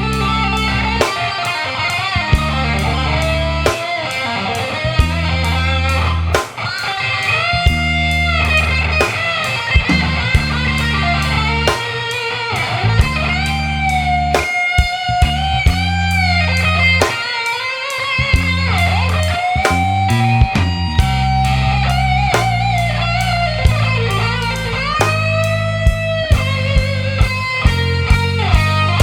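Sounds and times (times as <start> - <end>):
bass guitar: 0.0 - 29.0
drums keeping a steady beat: 0.0 - 29.0
electric guitar blues solo: 0.0 - 29.0.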